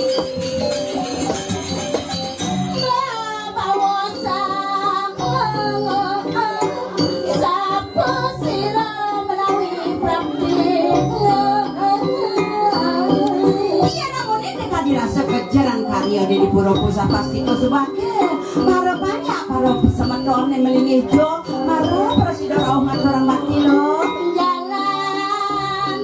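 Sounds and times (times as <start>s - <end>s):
jingling percussion: 0.0s - 26.0s
person singing wavering melody: 0.0s - 26.0s.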